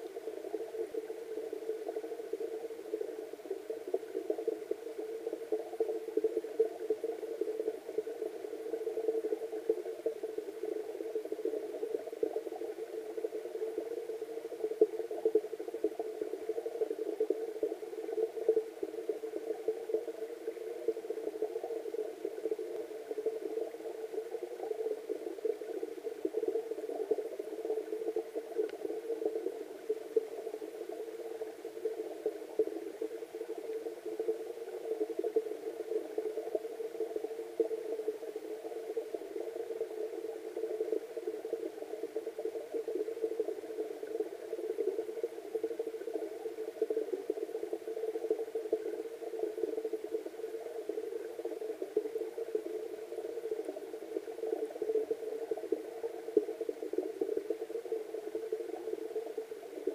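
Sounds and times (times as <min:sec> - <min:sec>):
muffled underwater water bubbling: 0:00.0 - 0:59.9.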